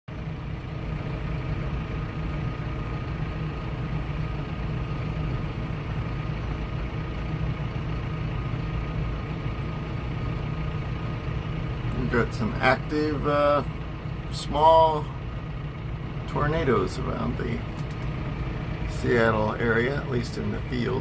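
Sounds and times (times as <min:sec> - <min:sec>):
engine idling: 0:00.1 - 0:21.0
faint steady whine: 0:00.1 - 0:21.0.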